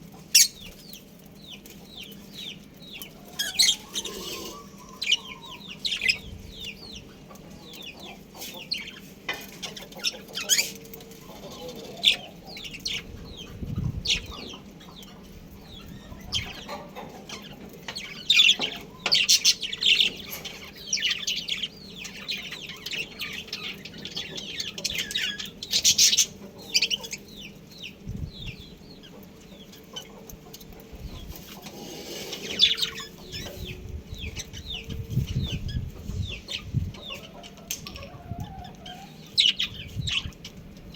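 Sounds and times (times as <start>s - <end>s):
budgerigars chirping and chattering: 0.1s - 40.9s.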